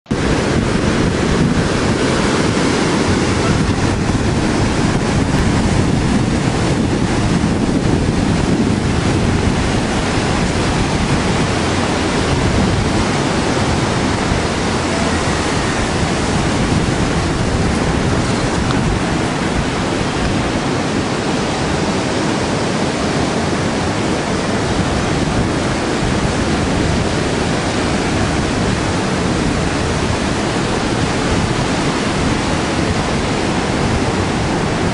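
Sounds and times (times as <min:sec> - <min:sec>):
surf breaking on beach: 0:00.1 - 0:34.9
wind buffeting microphone: 0:00.1 - 0:34.9.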